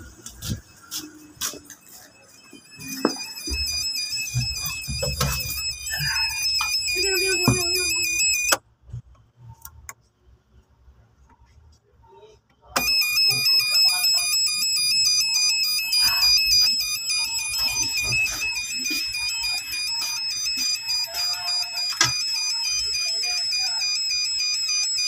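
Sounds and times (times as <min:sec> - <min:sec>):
chiming electronic melody: 0:00.0 - 0:08.6, 0:12.8 - 0:25.0.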